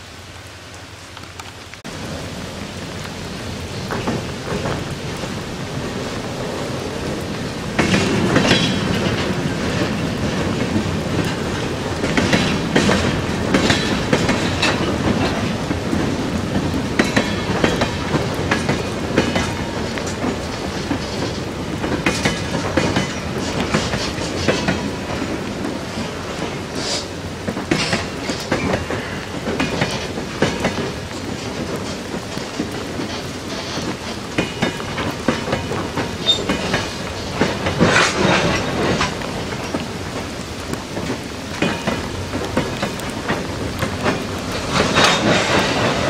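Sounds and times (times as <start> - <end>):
freight train wheels clattering: 3.1 - 46.0.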